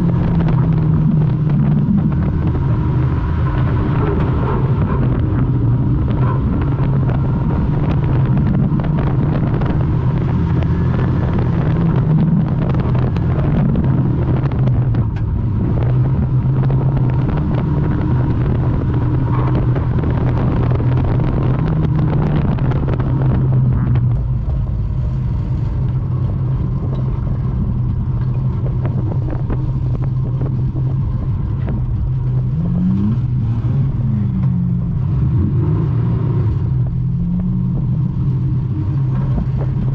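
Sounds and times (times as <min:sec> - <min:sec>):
car rattling and knocking: 0:00.0 - 0:33.2, 0:36.8 - 0:39.9
car engine under load: 0:00.0 - 0:39.9
engine revving: 0:00.0 - 0:39.9.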